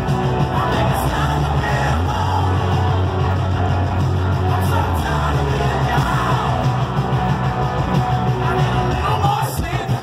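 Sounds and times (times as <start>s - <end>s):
bass guitar: 0.0s - 10.0s
drums: 0.0s - 10.0s
electric guitar: 0.0s - 10.0s
singer's voice: 0.0s - 10.0s.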